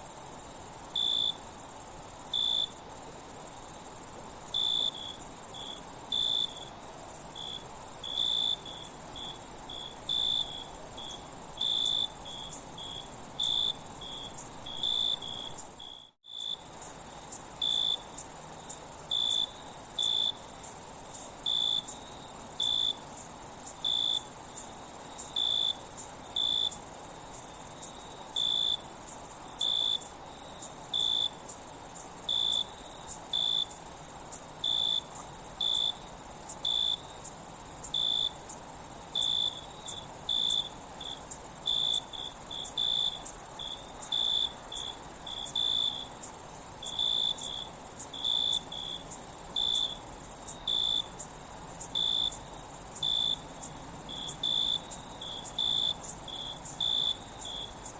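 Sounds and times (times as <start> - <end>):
crickets chirping: 0.0 - 57.9
high-pitched insect trill: 0.0 - 57.9.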